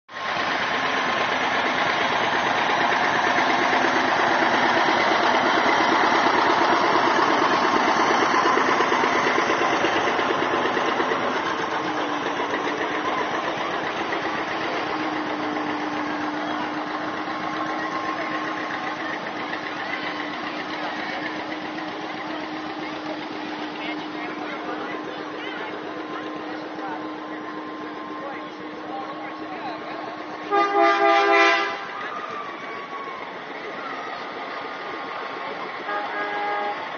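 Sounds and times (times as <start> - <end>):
engine running with even pulse: 0.1 - 36.9.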